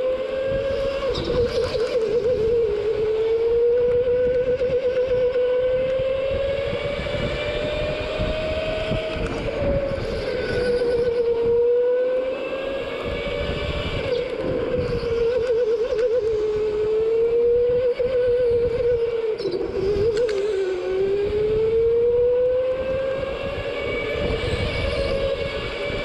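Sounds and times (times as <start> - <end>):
go-kart motor whine: 0.0 - 26.0.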